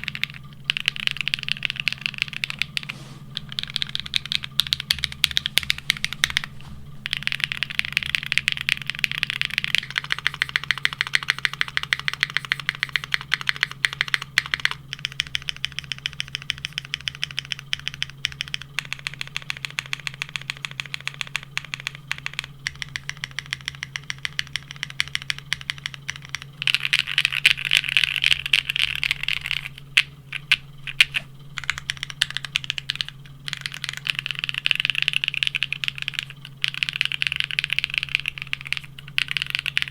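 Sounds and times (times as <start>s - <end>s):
steady low hum: 0.0s - 39.9s
typing on mechanical keyboard: 0.0s - 39.9s.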